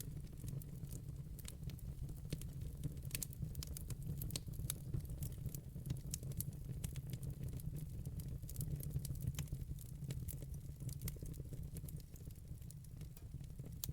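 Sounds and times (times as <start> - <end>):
fire low rumble: 0.0 - 13.9
logs crackling and popping: 0.1 - 13.2.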